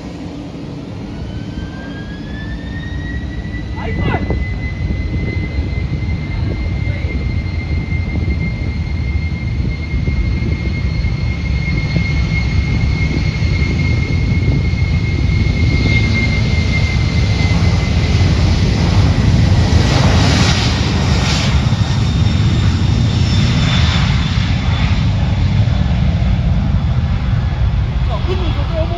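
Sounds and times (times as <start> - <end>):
jet engines rumbling: 0.0 - 28.9
thin high engine whine: 0.0 - 28.9.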